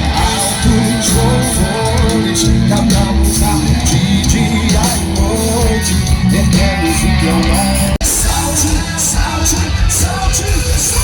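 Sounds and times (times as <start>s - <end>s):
drums beating: 0.0s - 11.0s
person singing: 0.0s - 11.0s
upbeat gospel music: 0.0s - 11.0s.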